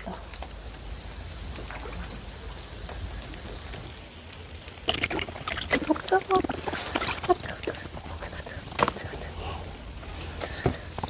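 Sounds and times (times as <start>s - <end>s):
skewers sizzling on grill: 0.0s - 11.0s.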